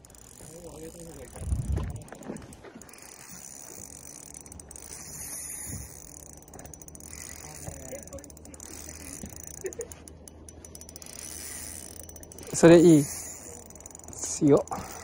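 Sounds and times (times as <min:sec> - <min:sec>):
fishing reel gears turning: 0:00.0 - 0:15.0.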